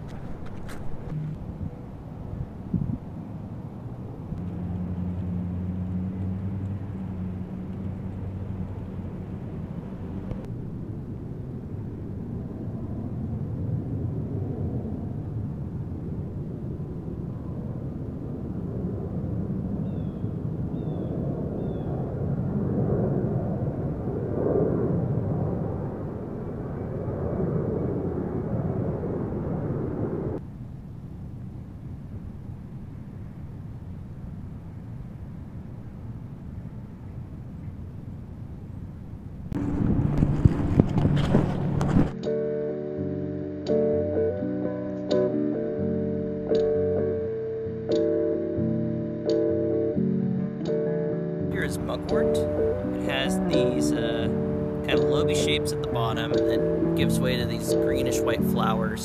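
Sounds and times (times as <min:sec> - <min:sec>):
low engine drone: 0:00.0 - 0:59.0
rough low outdoor rumble: 0:00.0 - 0:59.0.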